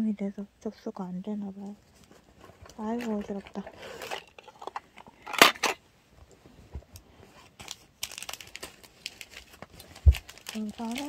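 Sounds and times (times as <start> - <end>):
rustling and crinkling: 1.4 - 11.0.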